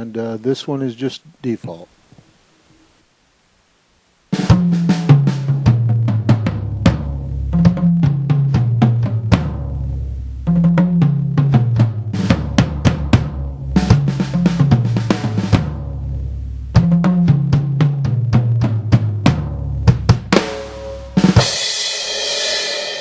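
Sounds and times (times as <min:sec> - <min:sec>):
drum kit groove: 0:04.3 - 0:23.0.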